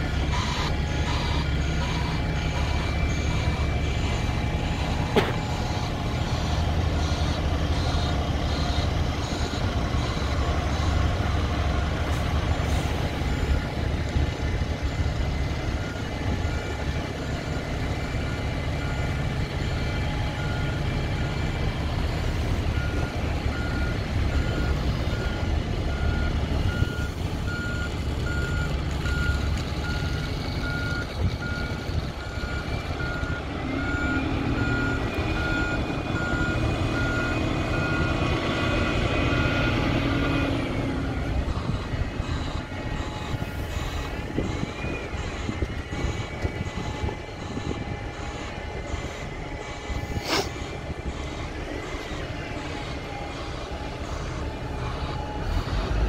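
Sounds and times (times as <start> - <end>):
bus engine rumbling: 0.0 - 56.0
reversing alarm beeping: 0.0 - 56.0.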